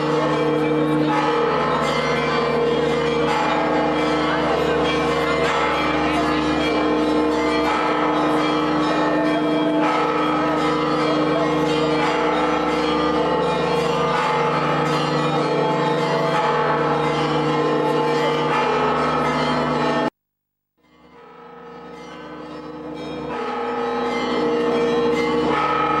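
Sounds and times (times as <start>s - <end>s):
church bells ringing: 0.0s - 20.1s, 20.8s - 26.0s.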